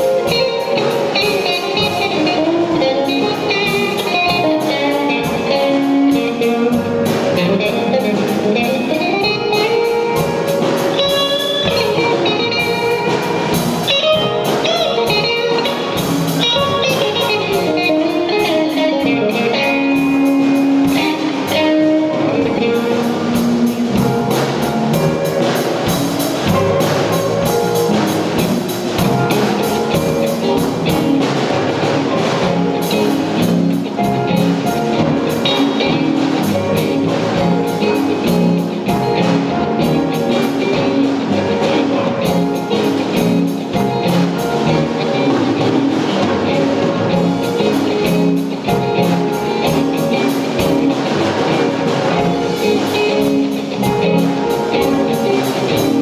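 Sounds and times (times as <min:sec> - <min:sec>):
drum kit: 0:00.0 - 0:56.0
electric bass solo: 0:00.0 - 0:56.0.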